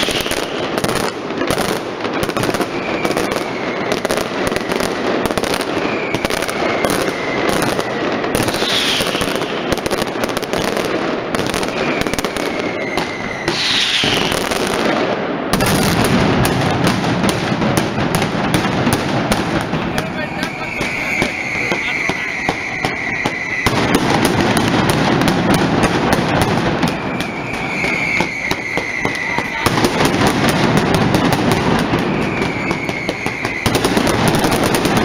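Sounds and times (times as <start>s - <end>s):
firecrackers banging rapidly: 0.0s - 35.0s
whistling fireworks: 0.0s - 35.0s.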